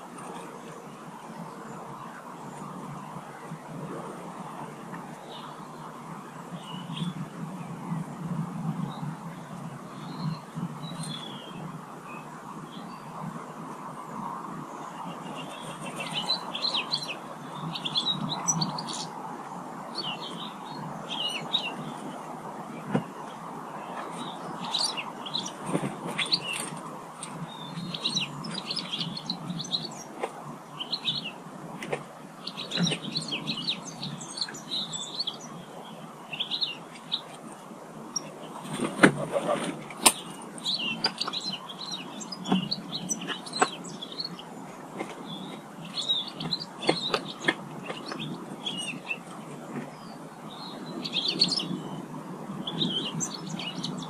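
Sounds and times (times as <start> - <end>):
small birds chirping: 4.4 - 54.0.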